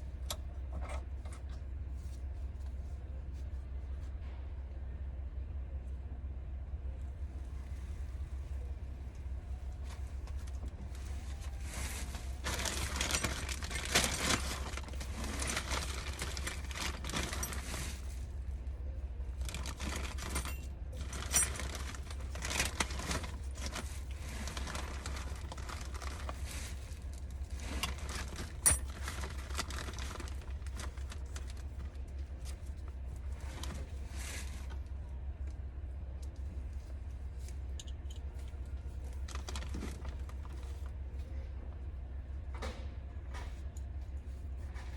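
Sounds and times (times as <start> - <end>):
rustling and scraping of tools: 0.0 - 4.4, 7.4 - 35.0, 36.2 - 41.6, 42.6 - 44.9
steady low hum: 0.0 - 44.9.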